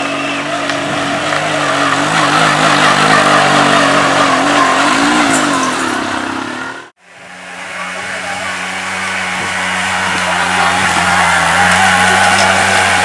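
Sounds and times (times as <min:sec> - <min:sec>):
tractor engine revving: 0:00.0 - 0:13.0.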